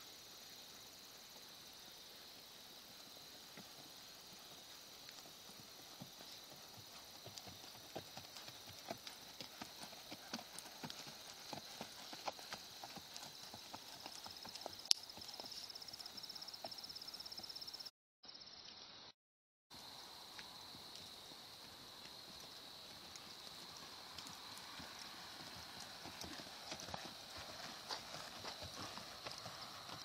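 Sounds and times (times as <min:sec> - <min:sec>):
horse hooves on soft sand: 0:03.2 - 0:17.8, 0:20.3 - 0:30.0.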